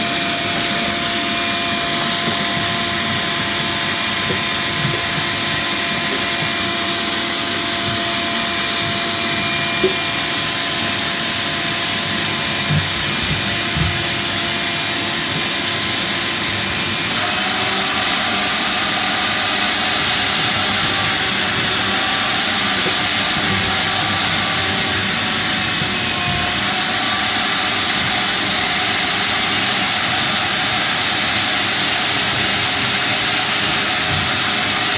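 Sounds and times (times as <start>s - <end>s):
loud machinery humming: 0.0s - 34.9s.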